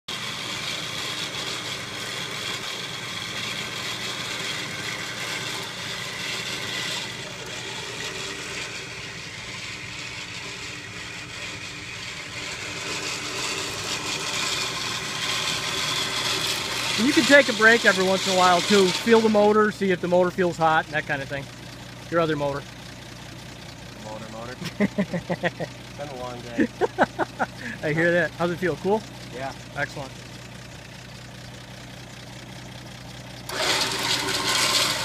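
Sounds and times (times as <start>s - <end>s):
electric winch motor running: 0.1s - 22.0s, 22.8s - 35.0s.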